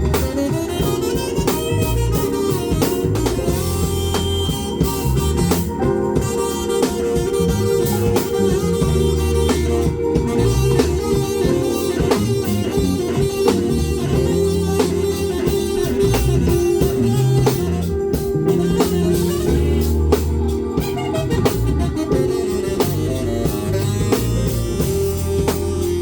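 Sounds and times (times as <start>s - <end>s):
bass line: 0.0s - 26.0s
drum kit: 0.0s - 26.0s
guitar: 0.0s - 26.0s.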